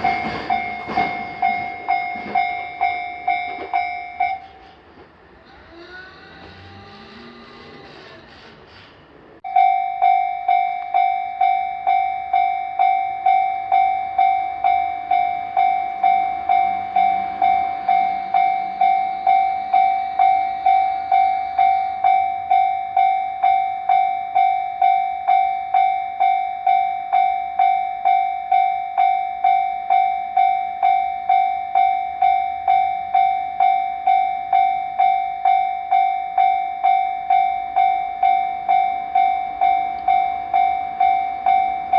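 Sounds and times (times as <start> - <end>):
level crossing warning bell: 0.0 - 4.6, 9.4 - 41.9.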